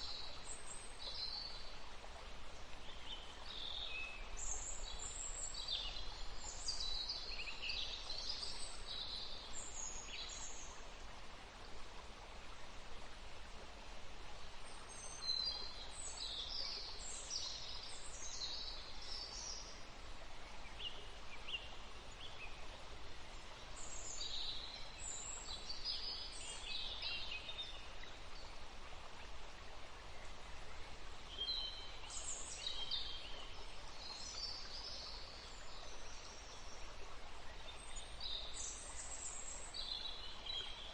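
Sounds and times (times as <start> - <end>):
outdoor background hiss: 0.0 - 40.9
songbirds chirping: 0.0 - 40.9.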